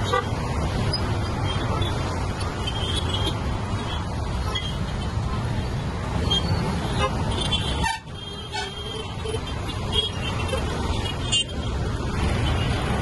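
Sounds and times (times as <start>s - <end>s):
traffic rumble and road noise: 0.0s - 13.0s.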